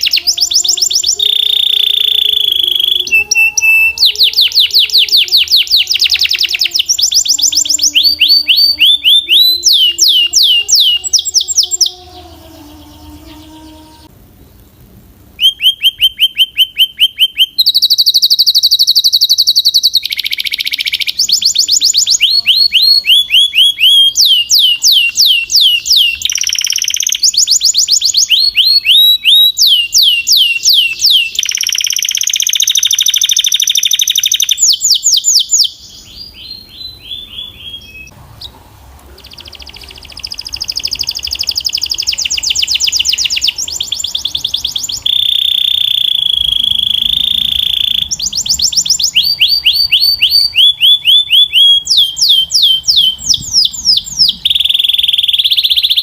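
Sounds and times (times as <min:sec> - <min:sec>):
canary trilling song: 0:00.0 - 0:14.8, 0:15.4 - 0:56.0.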